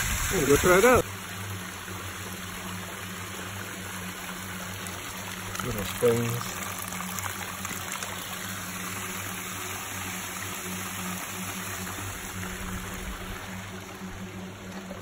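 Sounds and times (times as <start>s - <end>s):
water running down rock channel: 0.0s - 15.0s.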